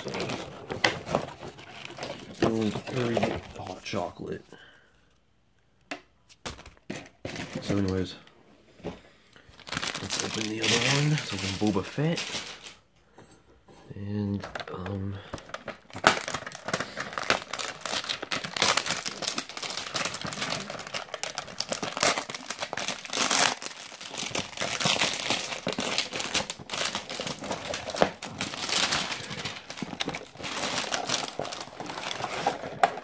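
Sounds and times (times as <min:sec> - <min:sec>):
packaging crinkling and rustling: 0:00.0 - 0:04.1, 0:06.3 - 0:08.2, 0:09.5 - 0:12.8, 0:14.4 - 0:33.0.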